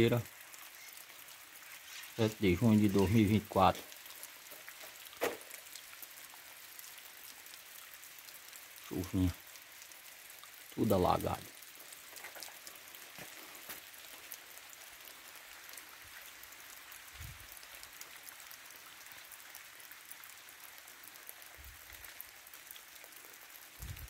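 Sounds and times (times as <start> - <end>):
rain falling on trees: 0.0 - 24.0.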